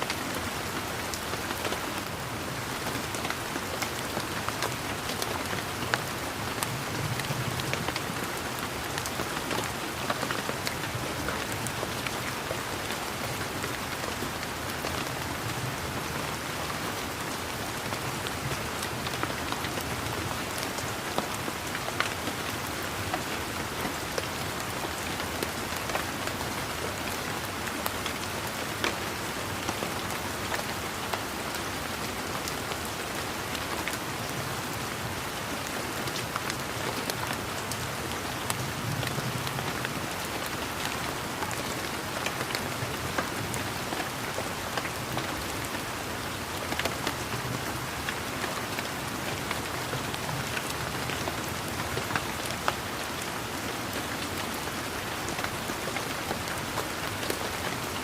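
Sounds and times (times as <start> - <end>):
raindrops pattering on leaves: 0.0 - 58.0
steady rain falling: 0.0 - 58.0.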